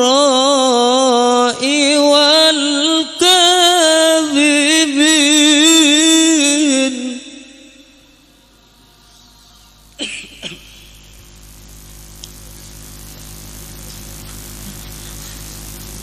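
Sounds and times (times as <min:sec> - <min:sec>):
sound system hum and hiss: 0:00.0 - 0:16.0.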